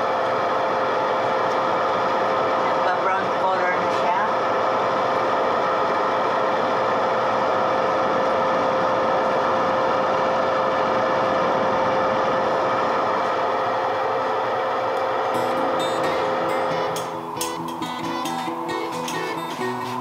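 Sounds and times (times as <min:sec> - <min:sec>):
air fryer fan whooshing and humming: 0:00.0 - 0:20.0.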